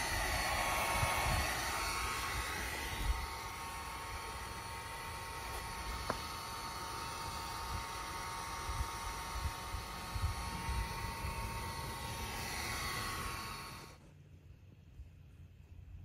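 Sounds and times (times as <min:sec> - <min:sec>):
steady mechanical whir: 0:00.0 - 0:14.5.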